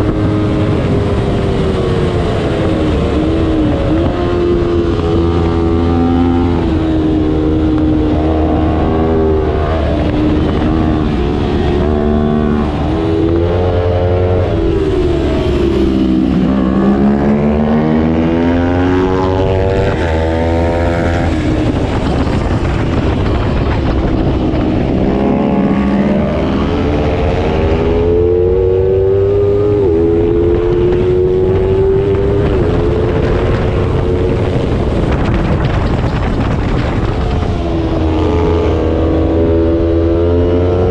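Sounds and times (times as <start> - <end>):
race motorcycle engine shifting gears: 0.0 - 40.9
rushing noise: 0.0 - 40.9.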